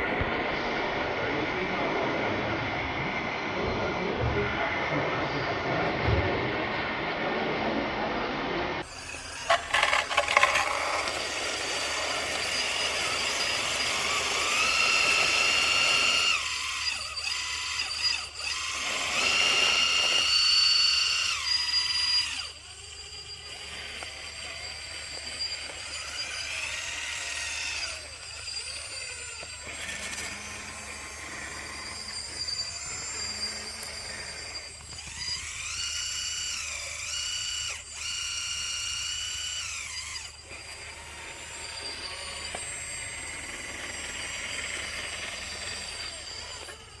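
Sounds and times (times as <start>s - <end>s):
small electric motors whining: 0.0s - 47.0s.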